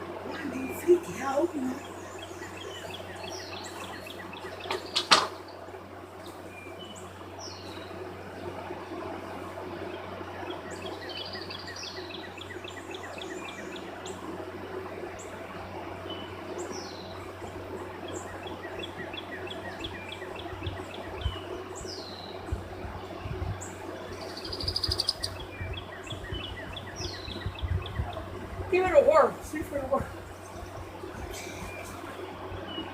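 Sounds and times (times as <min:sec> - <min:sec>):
steady low hum: 0:00.0 - 0:32.9
birds singing: 0:00.1 - 0:32.9.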